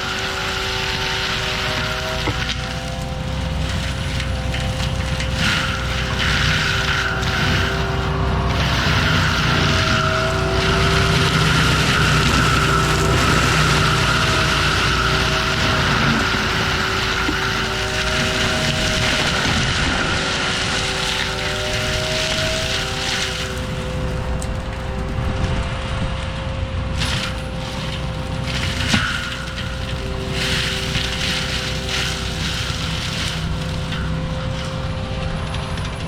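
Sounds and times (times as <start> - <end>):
wood cracking: 0.0 - 25.6, 27.0 - 36.0
mulcher engine droning: 0.0 - 36.0.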